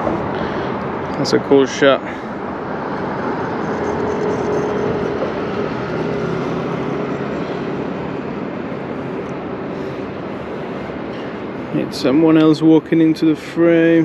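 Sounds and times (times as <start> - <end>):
steady hum: 0.0 - 13.4
city traffic: 0.0 - 14.0.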